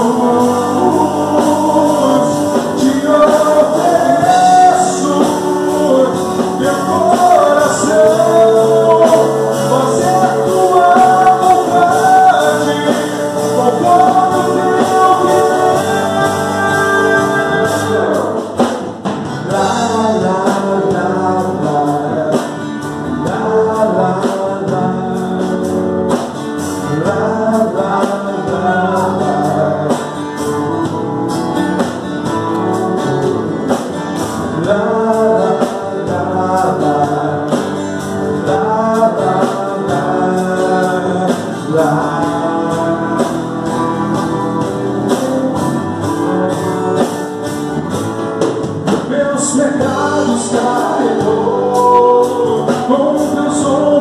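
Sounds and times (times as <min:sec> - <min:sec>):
man singing lead: 0:00.0 - 0:31.0, 0:32.2 - 0:47.3, 0:48.7 - 0:54.0
drum kit: 0:00.0 - 0:54.0
electric and acoustic guitars: 0:00.0 - 0:54.0.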